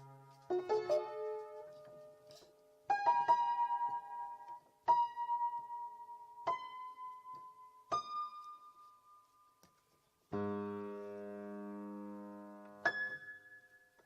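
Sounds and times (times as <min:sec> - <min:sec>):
solo piano: 0:00.0 - 0:14.0.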